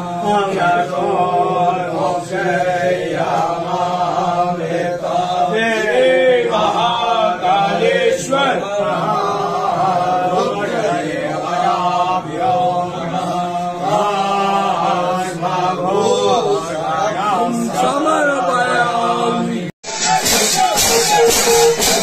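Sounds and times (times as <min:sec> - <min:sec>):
melodic sung chant: 0:00.0 - 0:22.0.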